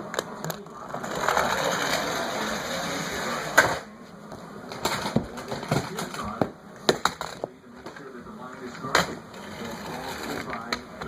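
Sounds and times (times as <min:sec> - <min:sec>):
plastic toy cars clattering: 0:00.2 - 0:03.8, 0:04.7 - 0:08.1, 0:08.7 - 0:10.8.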